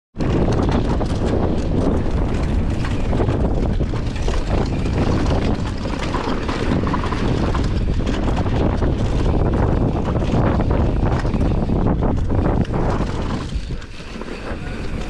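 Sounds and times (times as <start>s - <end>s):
bike knocks and rattles: 0.2s - 15.0s
tyres rumbling over dirt and rock: 0.2s - 15.0s
wind buffeting microphone: 0.2s - 15.0s.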